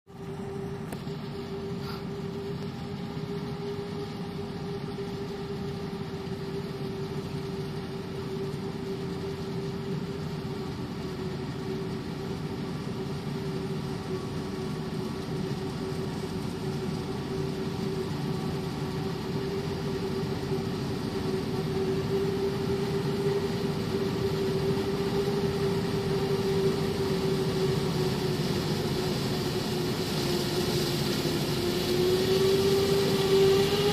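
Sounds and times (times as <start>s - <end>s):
deep engine drone: 0.1s - 33.9s
forage harvester whine: 0.1s - 33.9s.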